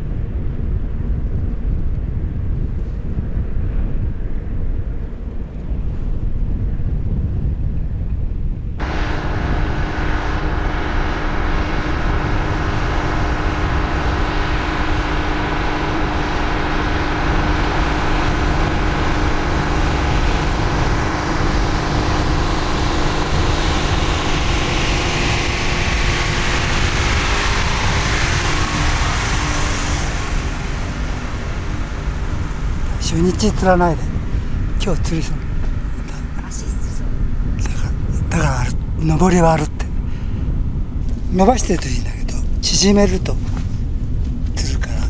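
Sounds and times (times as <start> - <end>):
road rumble: 0.0 - 45.0
wind noise: 0.0 - 45.0
vehicle engine running: 8.6 - 45.0.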